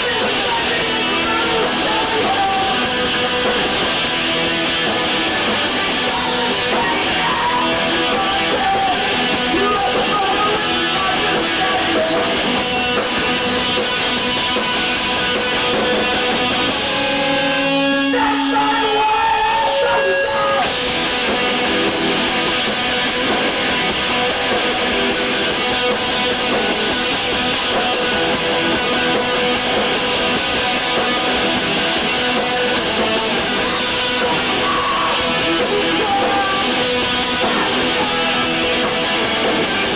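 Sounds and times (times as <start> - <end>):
drums: 0.0 - 39.9
electric guitars: 0.0 - 39.9.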